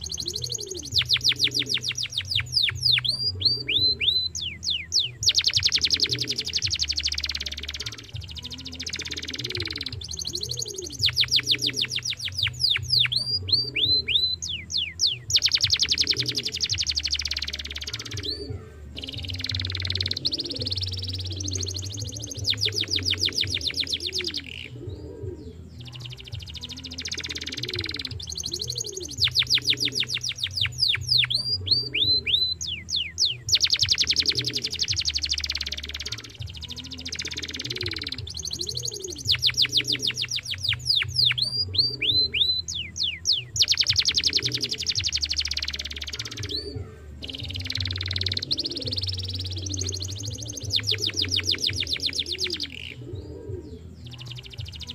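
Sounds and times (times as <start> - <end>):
canary singing: 0.0 - 54.9.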